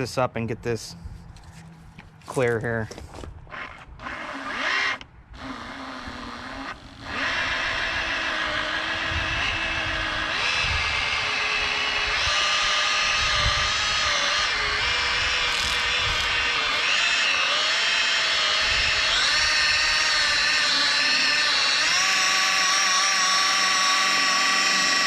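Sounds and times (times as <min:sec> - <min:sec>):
electric polisher whining: 0:03.6 - 0:25.0.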